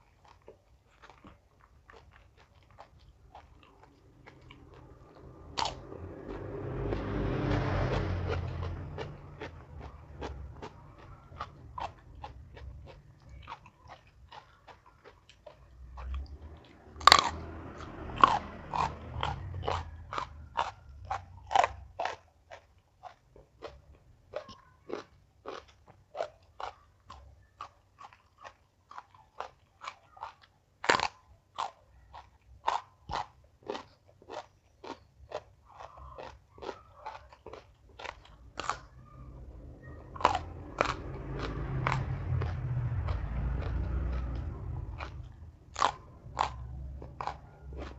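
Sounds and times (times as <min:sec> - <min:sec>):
chewing crunchy raw vegetables: 0:00.0 - 0:47.9.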